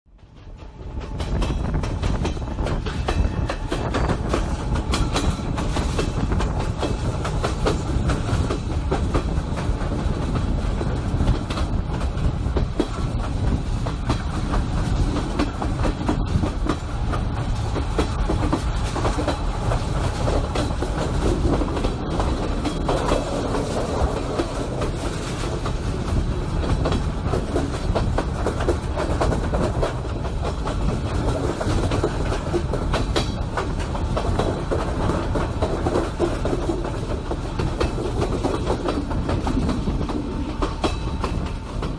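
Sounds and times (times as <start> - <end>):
train wheels rumbling on rails: 0.1 - 41.9.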